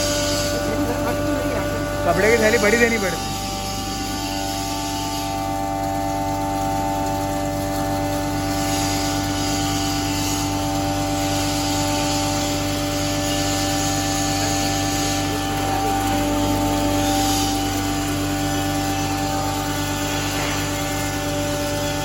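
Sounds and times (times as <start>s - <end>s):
grinding mill motor hum: 0.0s - 22.0s.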